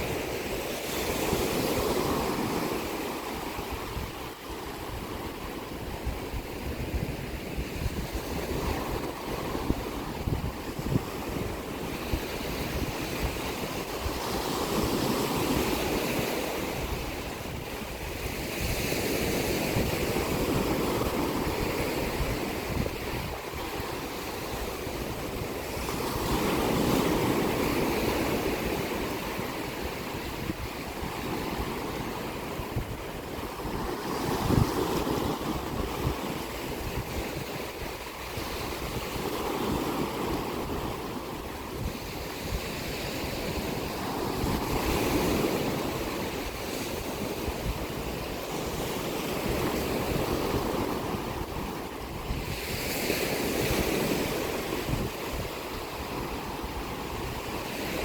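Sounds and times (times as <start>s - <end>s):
sea waves breaking: 0.0s - 58.0s
wind gusting on microphone: 0.0s - 58.0s.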